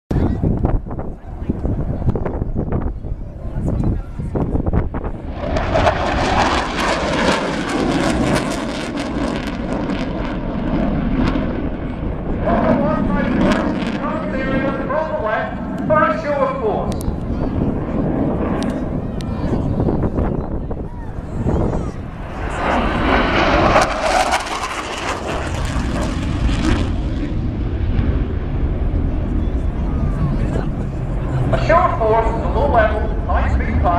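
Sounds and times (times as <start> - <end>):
jet engine roar with crackle: 0.1 - 33.9.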